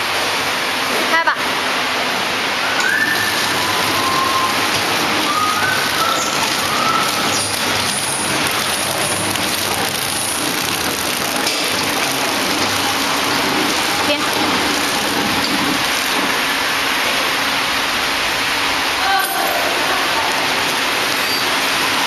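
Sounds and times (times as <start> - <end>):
wrapping machine running: 0.0 - 22.0.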